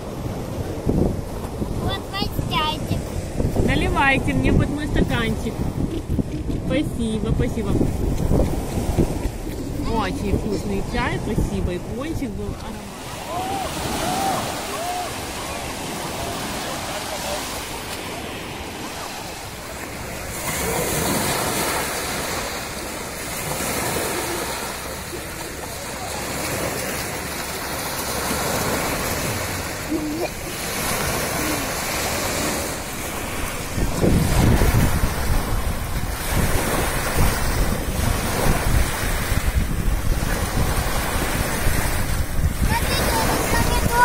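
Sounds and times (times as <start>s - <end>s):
sea waves washing on beach: 0.0s - 44.0s
wind buffeting microphone: 0.0s - 44.0s.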